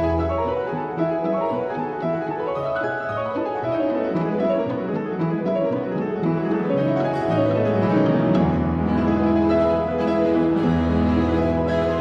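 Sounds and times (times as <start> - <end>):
classical piano music: 0.0 - 12.0.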